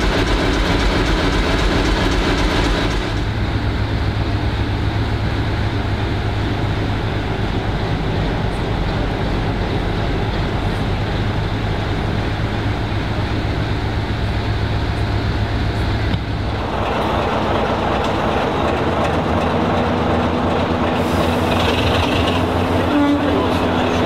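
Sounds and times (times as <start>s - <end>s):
diesel locomotive engine drone: 0.0s - 24.0s
moving train rushing rumble: 0.0s - 24.0s.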